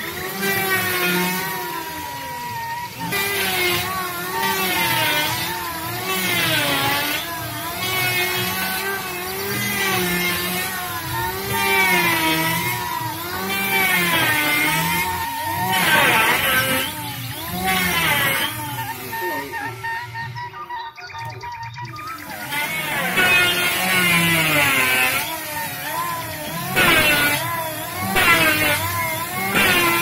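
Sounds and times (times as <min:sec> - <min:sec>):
electric hand planer shaving wood: 0:00.0 - 0:20.7, 0:21.3 - 0:30.0.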